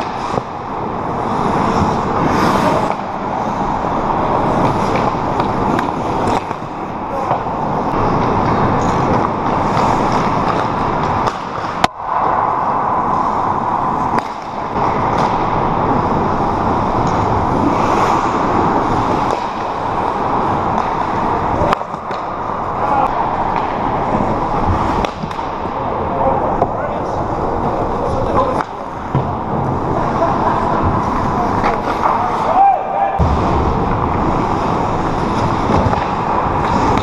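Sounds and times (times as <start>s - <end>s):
skating on ice rushing noise: 0.0s - 37.0s.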